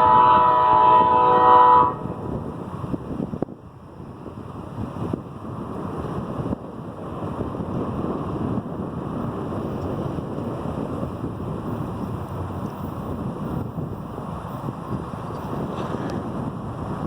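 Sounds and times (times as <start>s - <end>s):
passenger train rumbling: 0.0s - 17.0s
wind on microphone: 0.0s - 17.0s.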